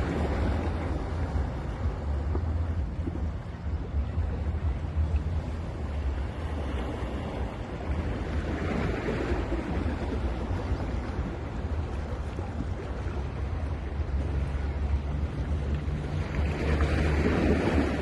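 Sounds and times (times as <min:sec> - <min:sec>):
ocean surf on a beach: 0:00.0 - 0:18.0.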